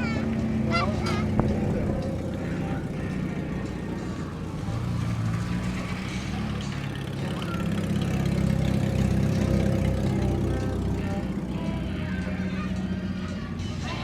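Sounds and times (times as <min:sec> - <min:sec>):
car engines running: 0:00.0 - 0:14.0.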